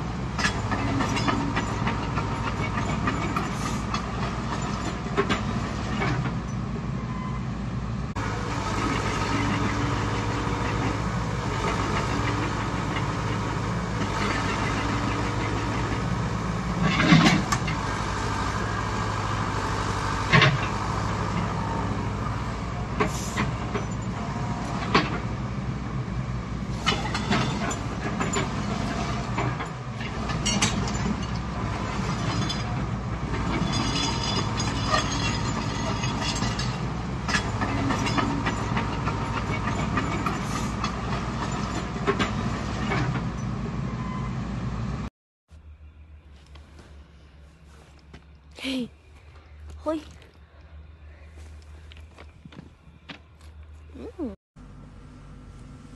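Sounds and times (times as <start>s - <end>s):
vehicle rumble: 0.0s - 55.9s.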